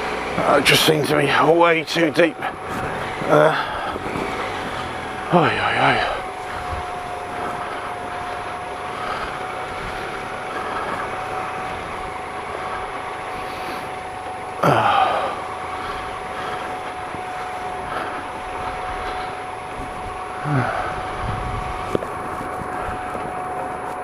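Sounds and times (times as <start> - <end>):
motorcycle engine running: 0.0 - 24.0
wind noise: 2.4 - 5.2, 5.8 - 14.1, 15.8 - 24.0.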